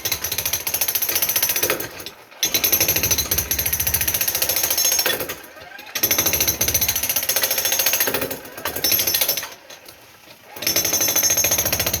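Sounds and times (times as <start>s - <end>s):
jackhammer hammering concrete: 0.0s - 5.4s, 6.0s - 9.5s, 10.6s - 12.0s.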